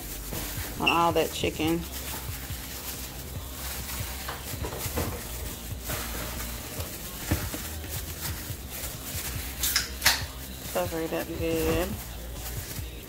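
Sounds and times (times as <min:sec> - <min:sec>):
wet squelches of chicken mixing: 0:00.0 - 0:13.0.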